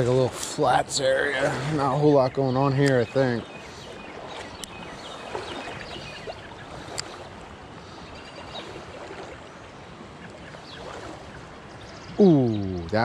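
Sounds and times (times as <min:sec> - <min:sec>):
creek running over gravel: 0:00.0 - 0:12.0.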